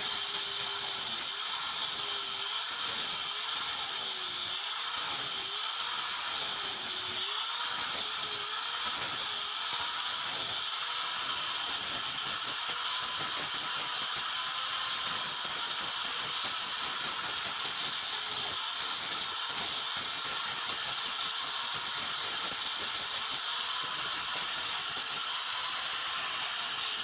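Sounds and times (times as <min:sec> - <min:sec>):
angle grinder grinding: 0:00.0 - 0:27.0.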